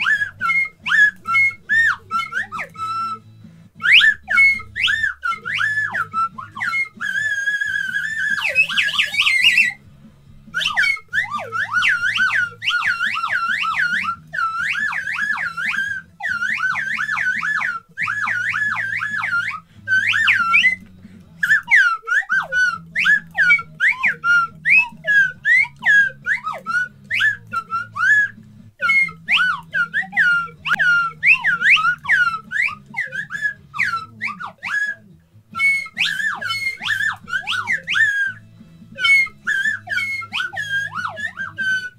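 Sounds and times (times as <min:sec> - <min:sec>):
slide whistle swooping notes: 0:00.0 - 0:41.9.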